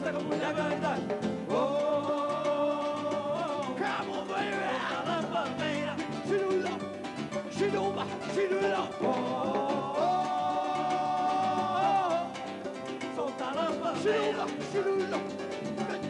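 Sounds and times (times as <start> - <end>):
guitar playing: 0.0 - 16.0
hand percussion: 0.0 - 16.0
person singing: 0.0 - 16.0.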